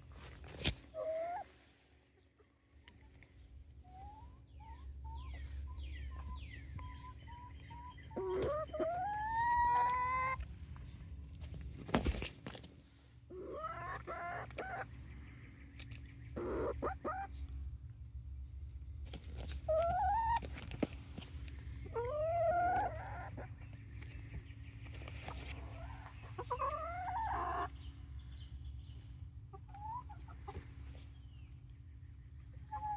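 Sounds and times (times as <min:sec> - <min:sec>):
chickens calling: 0:00.0 - 0:32.9.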